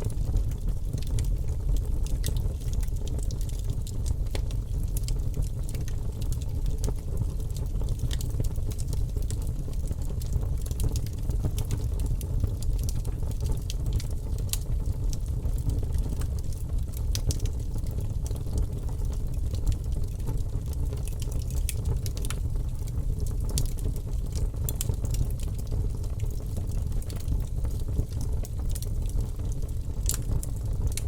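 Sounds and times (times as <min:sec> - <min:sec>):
campfire wood crackling: 0:00.1 - 0:31.0.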